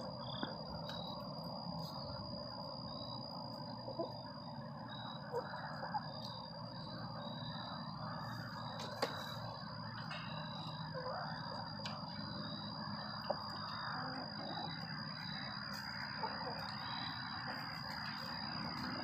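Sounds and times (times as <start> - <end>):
constant low hiss: 0.0 - 19.0
hens clucking softly: 3.4 - 19.0.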